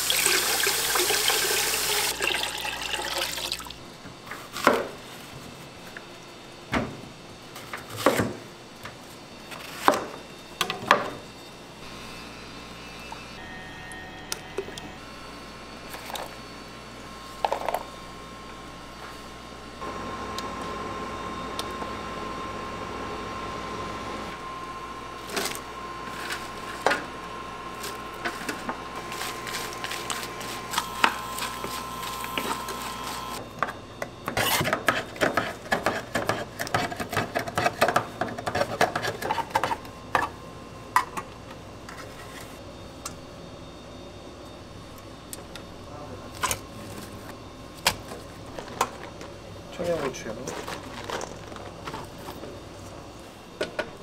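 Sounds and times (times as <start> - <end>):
kitchen hum: 0.0 - 54.0.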